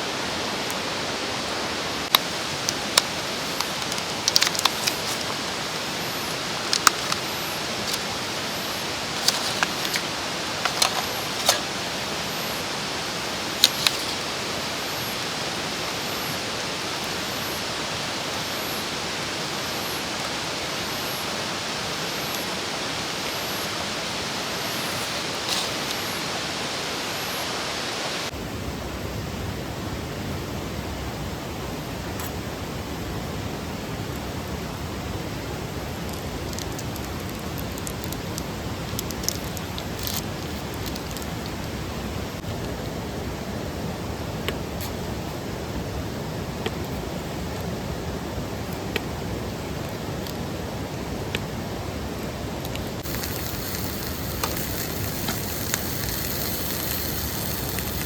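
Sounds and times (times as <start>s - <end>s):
mountain stream rushing: 0.0s - 58.0s.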